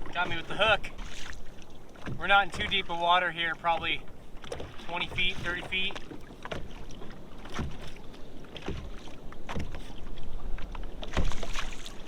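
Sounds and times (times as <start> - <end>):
water splashing against a hull: 0.0 - 12.0.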